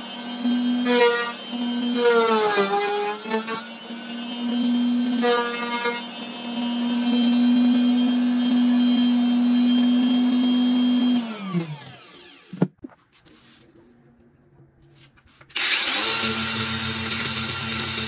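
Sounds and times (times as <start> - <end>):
angle grinder running: 0.0 - 12.6, 15.6 - 18.0
router whining and spinning down: 0.0 - 12.7, 15.5 - 18.0.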